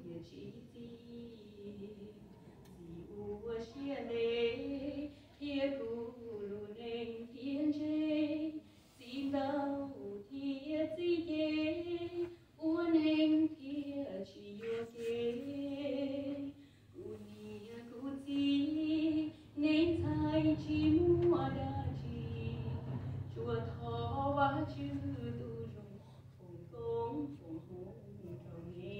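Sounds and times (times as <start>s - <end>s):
woman singing into a microphone: 0.0s - 28.9s.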